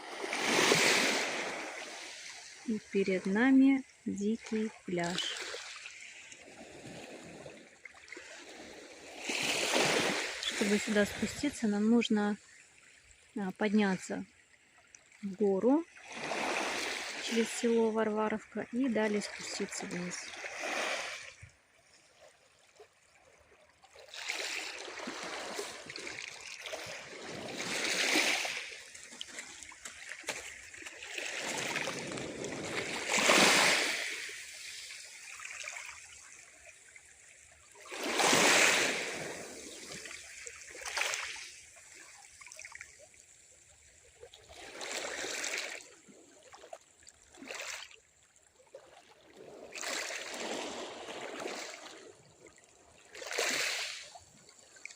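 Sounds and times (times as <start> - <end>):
sea waves breaking on shore: 0.0 - 48.1, 48.7 - 54.9.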